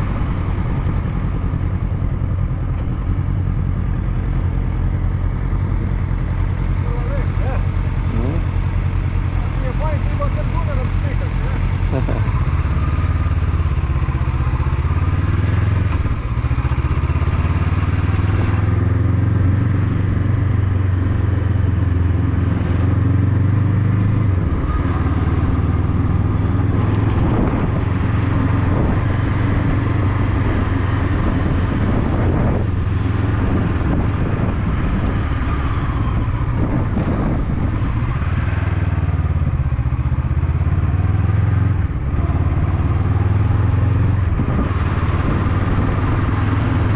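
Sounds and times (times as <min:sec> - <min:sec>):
motorcycle engine droning: 0:00.0 - 0:46.9.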